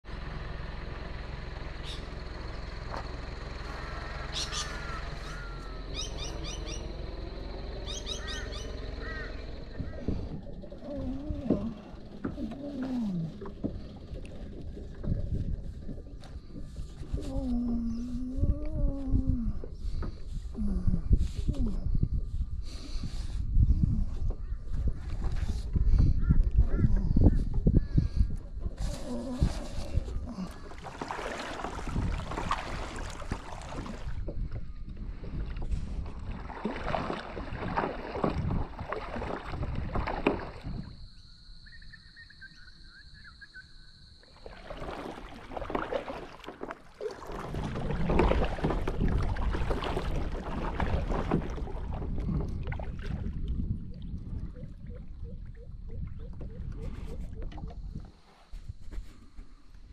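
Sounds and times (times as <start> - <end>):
water lapping and splashing: 0.0 - 41.2, 44.2 - 59.9
wind rumbling on microphone: 3.6 - 41.5, 47.2 - 59.9.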